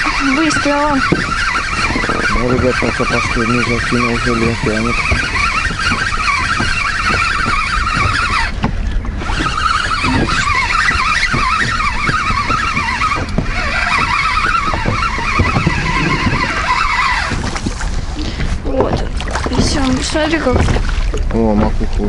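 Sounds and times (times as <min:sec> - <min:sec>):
fishing reel gear whine: 0:00.0 - 0:18.0.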